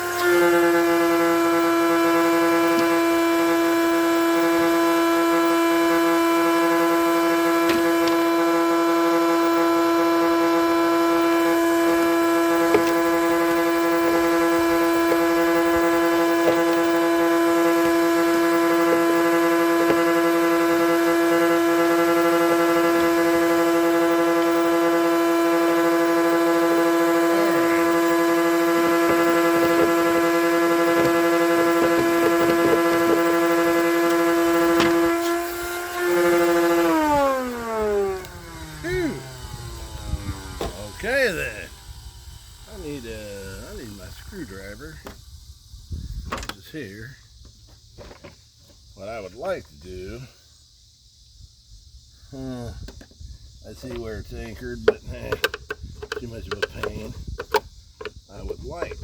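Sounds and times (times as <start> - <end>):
blower fan humming: 0.0 - 50.4, 52.3 - 59.0.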